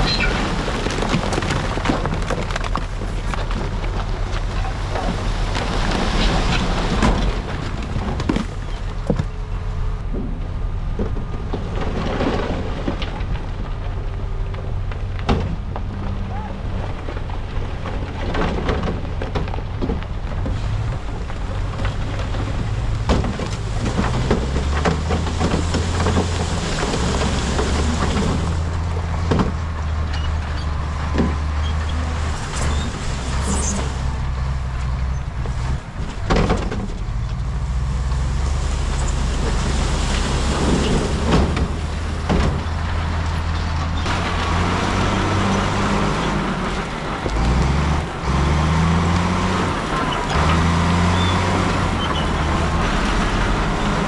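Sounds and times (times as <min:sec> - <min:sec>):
diesel machinery engine drone: 0:00.0 - 0:54.0
knocks and clatter: 0:00.0 - 0:54.0.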